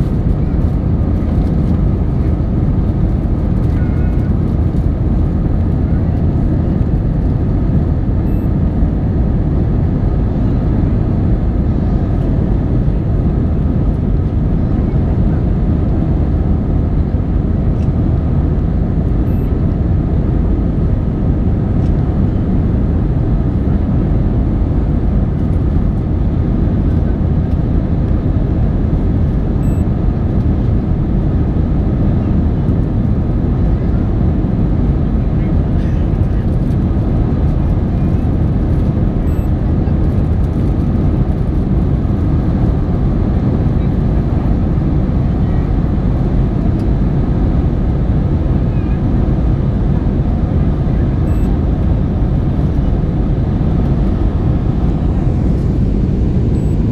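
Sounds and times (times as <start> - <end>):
plane engines roaring: 0.0 - 56.9.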